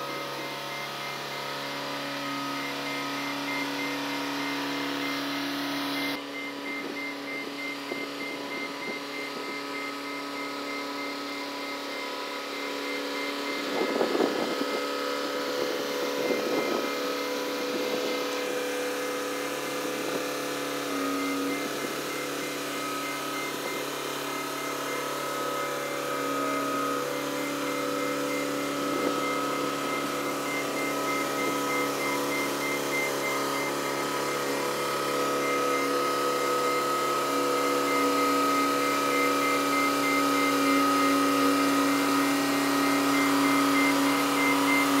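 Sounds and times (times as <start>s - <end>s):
hoist engine running: 0.0s - 45.0s.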